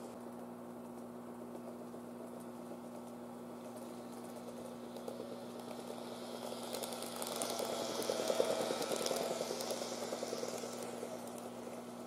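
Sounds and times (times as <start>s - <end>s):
model train whirring and rattling: 1.5s - 12.0s.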